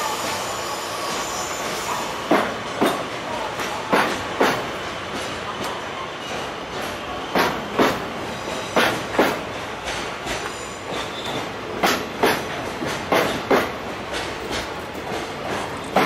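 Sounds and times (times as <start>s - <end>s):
train rolling rumble: 0.0s - 16.0s
train wheels clacking on rail joints: 1.1s - 16.0s.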